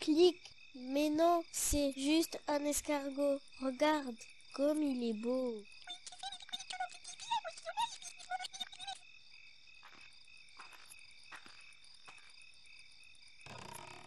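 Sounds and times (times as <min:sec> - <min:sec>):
crickets chirping: 0:00.0 - 0:14.0
frogs croaking: 0:00.0 - 0:14.0.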